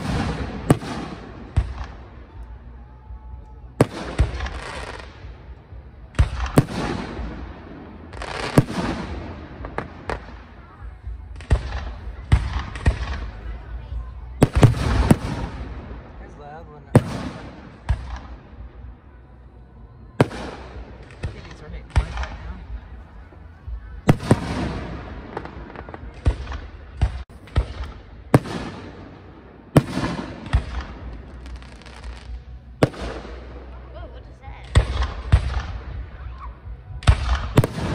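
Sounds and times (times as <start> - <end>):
fireworks echo and crackle: 0.0 - 37.9
low background rumble: 0.0 - 37.9.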